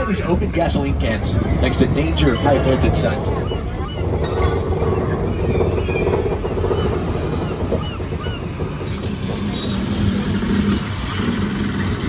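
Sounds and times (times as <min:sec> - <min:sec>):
tram rumbling: 0:00.0 - 0:12.0
high squeaky calls: 0:02.2 - 0:12.0.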